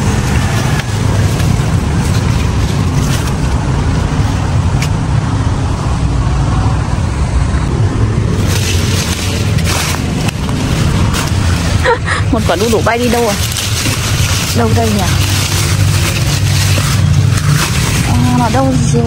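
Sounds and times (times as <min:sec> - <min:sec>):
leafy branches rustling: 0:00.0 - 0:06.1, 0:07.3 - 0:19.0
steady low rumble: 0:00.0 - 0:19.0.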